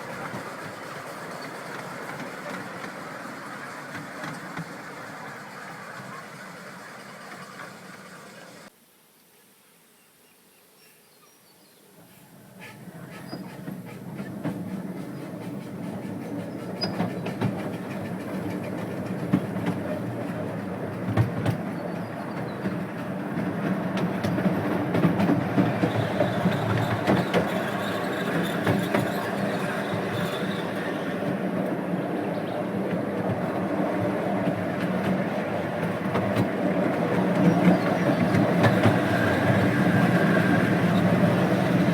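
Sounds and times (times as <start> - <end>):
small steam train rumbling: 0.0 - 8.7, 12.0 - 41.9.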